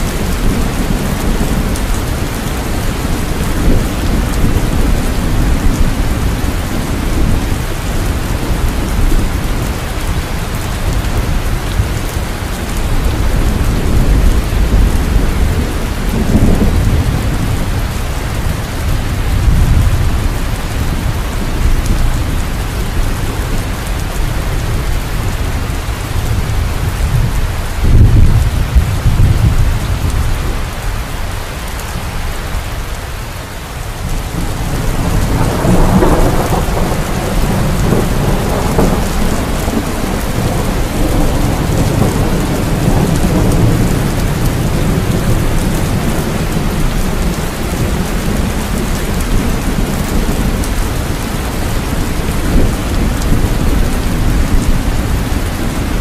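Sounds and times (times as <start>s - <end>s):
rolling thunder: 0.0s - 30.8s, 34.0s - 56.0s
steady rain: 0.0s - 56.0s.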